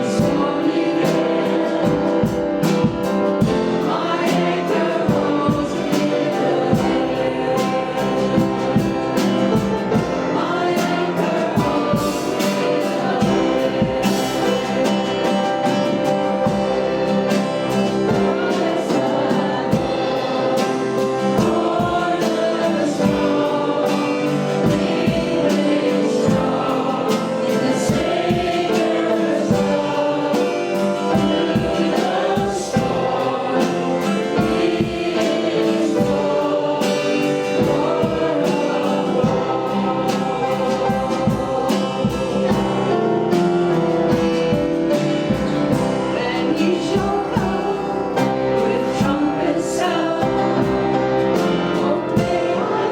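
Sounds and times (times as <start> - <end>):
group singing gospel: 0.0 - 52.9
instrumental accompaniment: 0.0 - 52.9.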